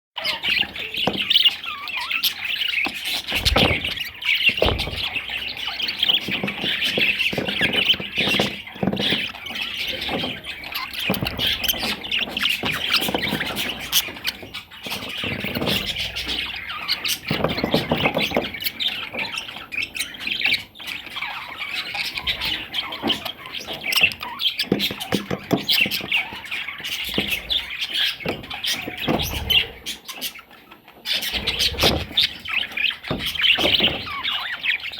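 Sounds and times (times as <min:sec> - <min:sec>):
budgerigar warbling and chattering: 0:00.2 - 0:34.9.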